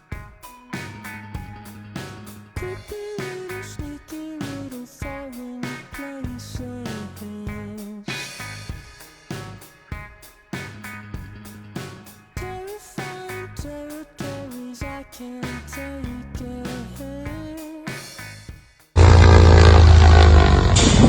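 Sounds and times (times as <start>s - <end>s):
steady drum beat: 0.0s - 19.8s
funky guitar music: 0.0s - 21.0s.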